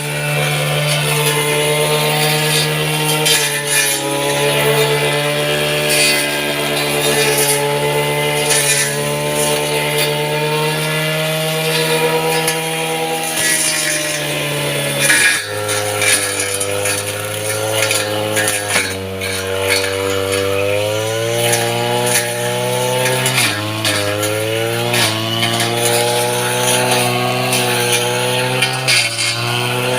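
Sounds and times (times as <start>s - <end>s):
small petrol engine running: 0.0s - 29.9s.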